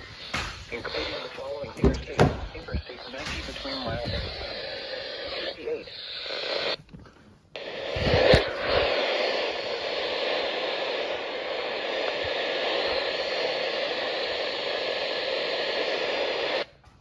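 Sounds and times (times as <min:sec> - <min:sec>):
radio static hiss: 0:00.0 - 0:06.9, 0:07.5 - 0:16.8.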